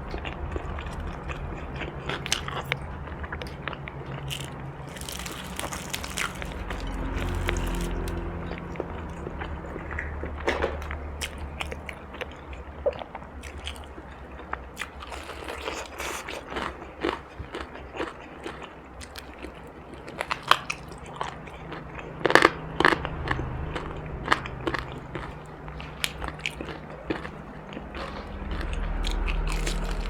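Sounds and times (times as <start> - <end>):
chewing crunchy food: 0.0 - 30.0.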